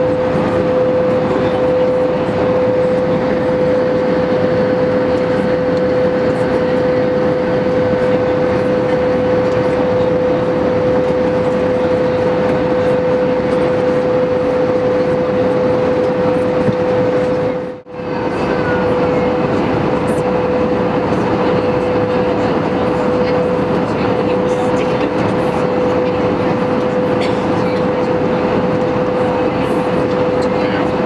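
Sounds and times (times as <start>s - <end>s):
airplane cabin engine noise: 0.0s - 31.0s.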